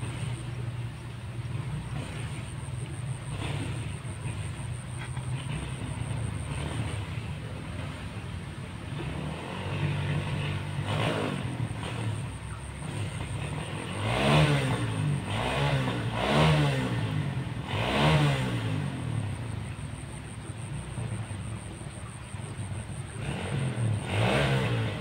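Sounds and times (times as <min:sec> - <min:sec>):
motorbike engine revving: 0:00.0 - 0:25.0.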